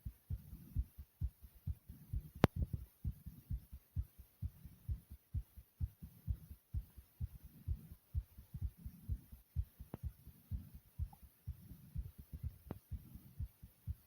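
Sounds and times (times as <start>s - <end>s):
heartbeat thumping: 0.0s - 14.0s.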